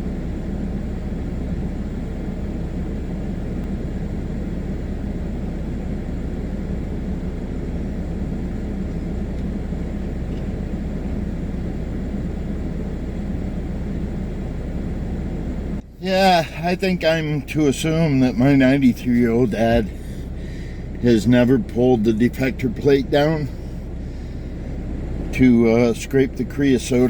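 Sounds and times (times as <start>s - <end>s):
blower running: 0.0s - 27.0s.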